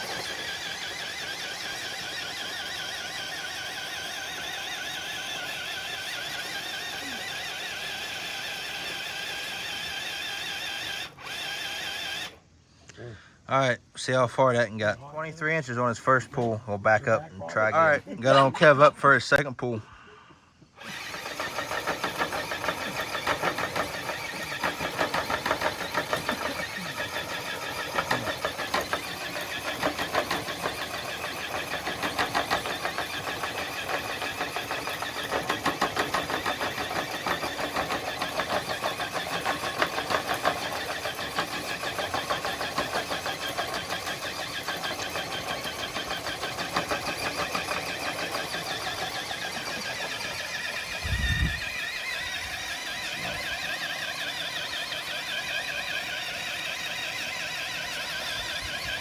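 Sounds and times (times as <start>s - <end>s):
rc car motor and gearbox whining: 0.0s - 12.5s, 20.6s - 59.0s.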